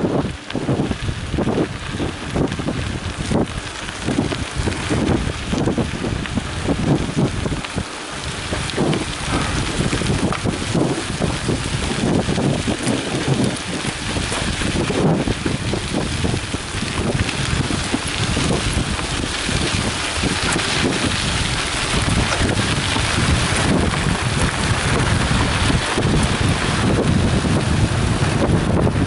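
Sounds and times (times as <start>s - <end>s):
bike tyres on gravel: 0.0s - 29.0s
wind on microphone: 0.0s - 29.0s.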